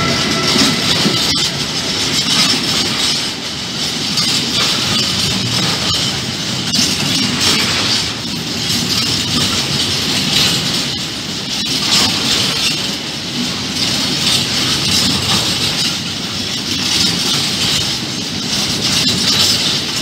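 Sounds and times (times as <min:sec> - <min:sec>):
freight train wheels rumbling on rail: 0:00.0 - 0:20.0
rail clacks: 0:00.0 - 0:20.0.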